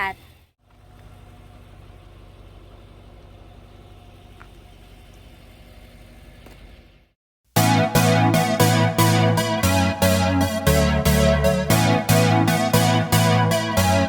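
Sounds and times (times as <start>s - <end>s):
car engine idling: 0.2s - 14.0s.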